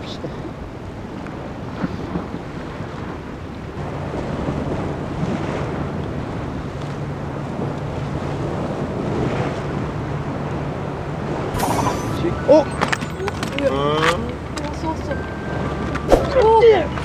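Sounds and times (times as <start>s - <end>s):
wind buffeting microphone: 0.0s - 17.0s
sea waves breaking on rocks: 0.6s - 15.0s.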